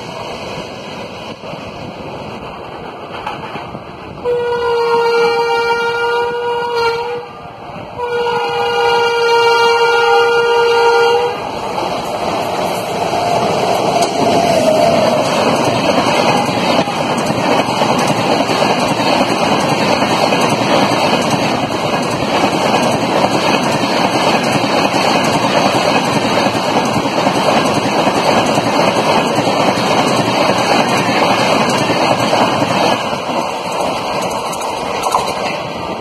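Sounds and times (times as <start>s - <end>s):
train rushing past: 0.0s - 36.0s.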